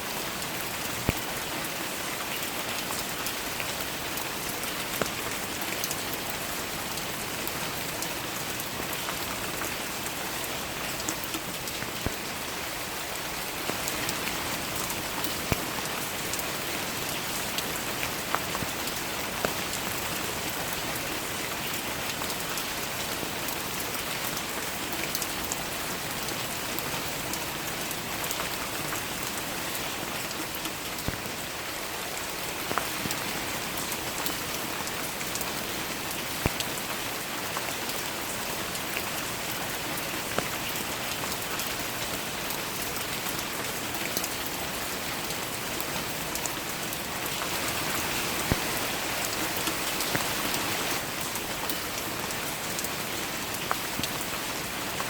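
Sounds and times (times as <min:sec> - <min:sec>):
steady rain hiss: 0:00.0 - 0:55.0
raindrops ticking close by: 0:00.1 - 0:55.0.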